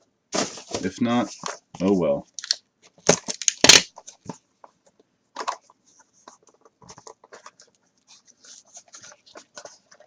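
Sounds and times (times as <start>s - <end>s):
cards rustling and scraping: 0.4s - 10.0s.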